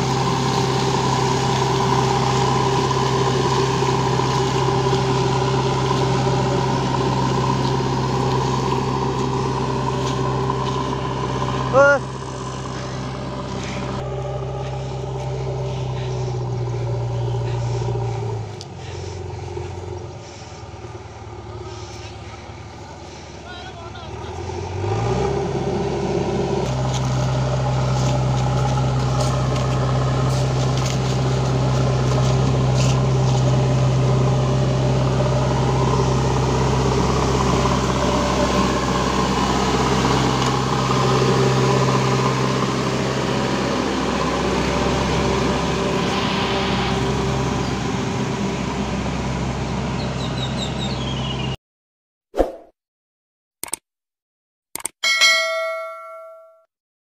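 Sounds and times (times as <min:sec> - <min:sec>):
diesel engine running: 0:00.0 - 0:51.6.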